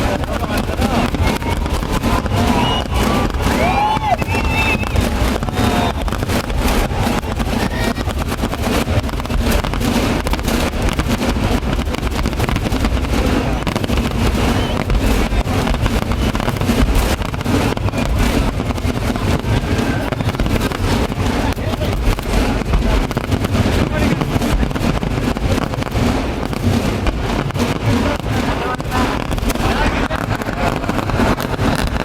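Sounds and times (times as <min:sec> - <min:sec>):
fireworks crackling bangs: 0:00.0 - 0:32.0.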